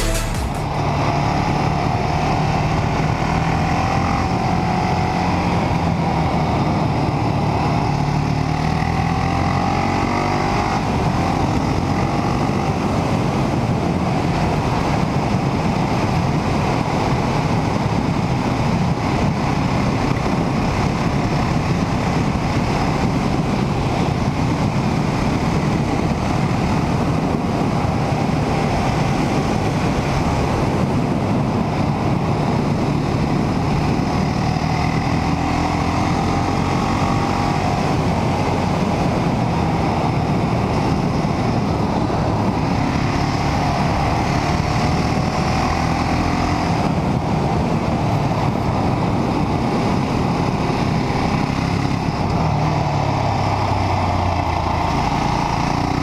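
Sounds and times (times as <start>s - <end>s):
wind noise: 0.0s - 56.0s.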